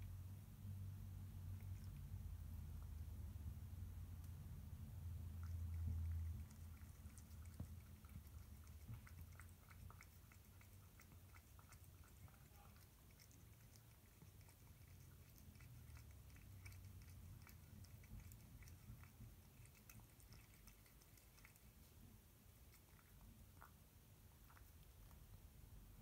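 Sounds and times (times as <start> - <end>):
cat chewing wet food: 1.2 - 26.0.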